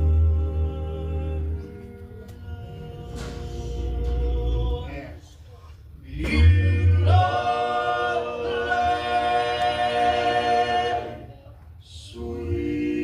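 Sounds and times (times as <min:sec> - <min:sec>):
male quartet singing in harmony: 0:00.0 - 0:05.2, 0:06.0 - 0:13.0.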